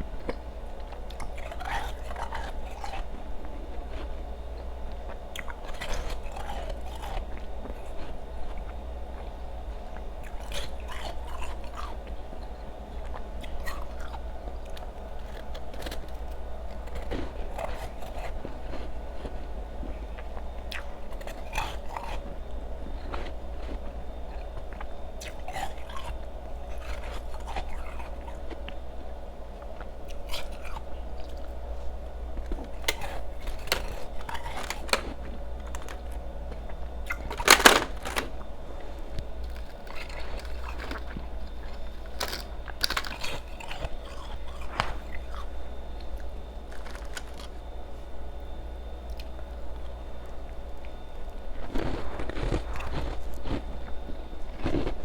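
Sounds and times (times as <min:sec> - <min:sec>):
person chewing ice: 0:00.0 - 0:55.0
steady low hum: 0:00.0 - 0:55.0.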